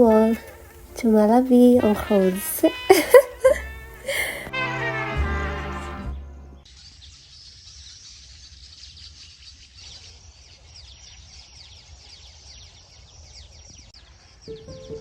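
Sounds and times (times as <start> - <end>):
small birds chirping: 0.0 - 4.4, 6.6 - 15.0.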